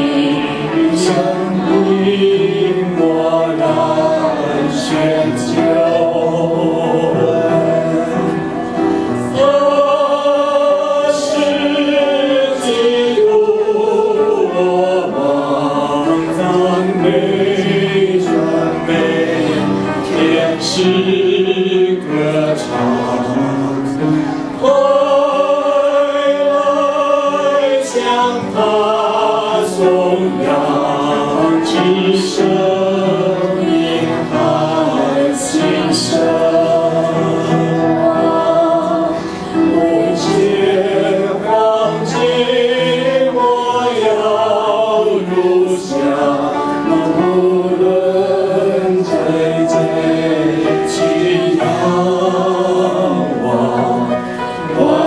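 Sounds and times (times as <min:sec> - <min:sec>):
group singing over sound system: 0:00.0 - 0:55.0.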